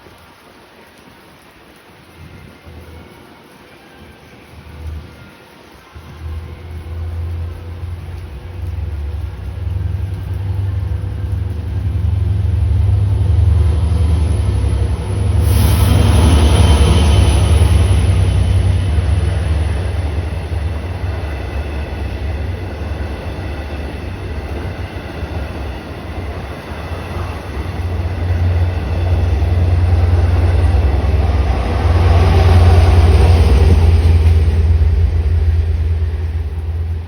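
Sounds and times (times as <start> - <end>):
train rumbling: 2.2 - 37.0.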